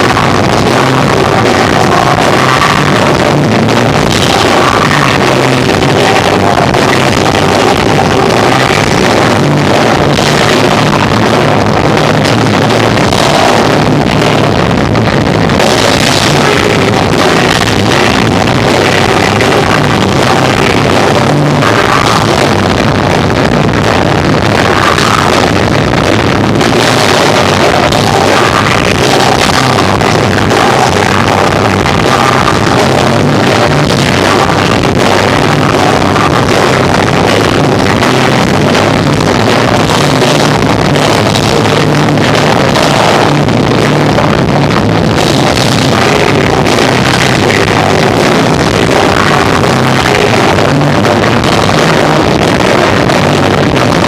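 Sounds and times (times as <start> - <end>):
distorted live rock band: 0.0 - 54.0.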